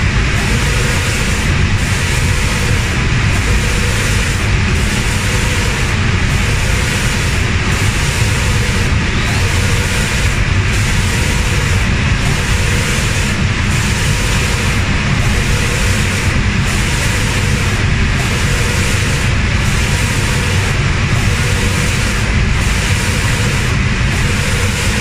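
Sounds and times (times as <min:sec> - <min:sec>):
low machine hum: 0:00.0 - 0:25.0
spray guns hissing: 0:00.3 - 0:25.0.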